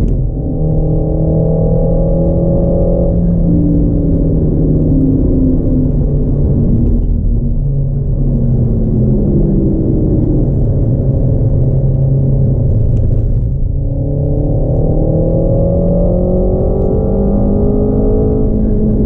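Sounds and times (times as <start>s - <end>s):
heavy road rumble: 0.0s - 19.0s
turbocharged car engine under load: 0.0s - 19.0s.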